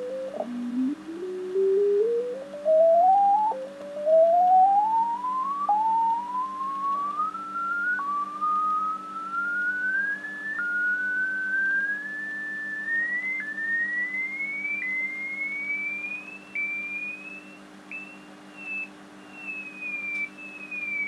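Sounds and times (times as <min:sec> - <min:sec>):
radio heterodyne whistle: 0:00.0 - 0:21.0.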